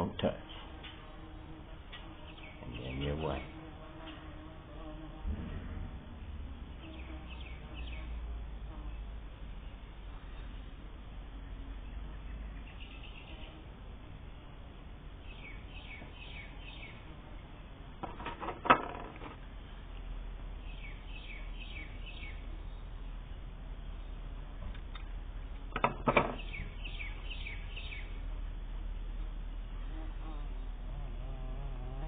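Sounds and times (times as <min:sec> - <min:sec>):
small birds chirping: 0:00.0 - 0:05.2, 0:06.1 - 0:18.4, 0:19.3 - 0:32.0
steady low hum: 0:00.0 - 0:32.0.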